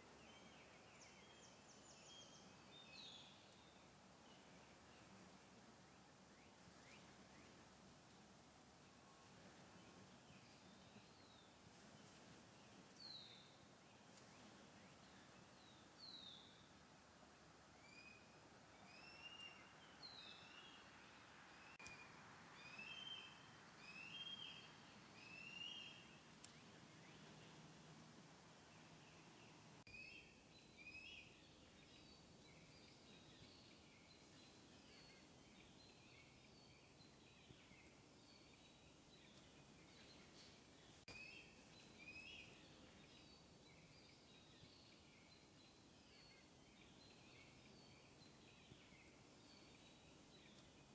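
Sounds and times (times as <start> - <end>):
steady outdoor hiss: 0.0 - 50.9.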